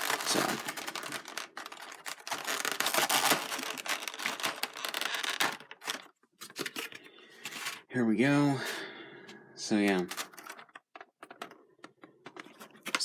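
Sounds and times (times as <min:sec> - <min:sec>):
packaging crinkling and rustling: 0:00.0 - 0:07.9, 0:09.8 - 0:13.0.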